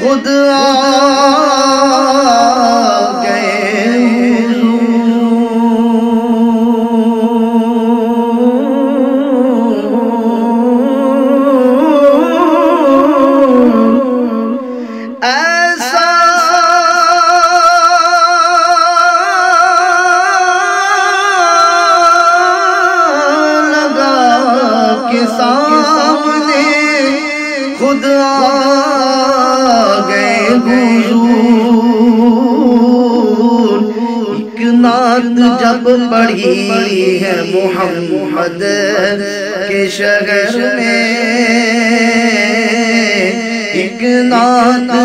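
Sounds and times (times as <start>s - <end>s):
man singing drawn-out notes: 0.0s - 45.0s.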